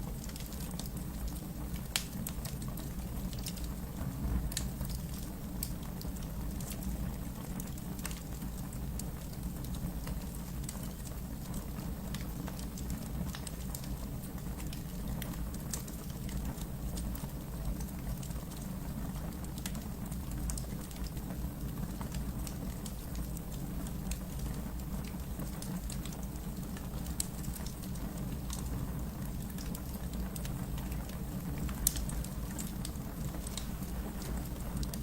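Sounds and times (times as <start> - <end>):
fire crackling and popping: 0.0 - 35.0.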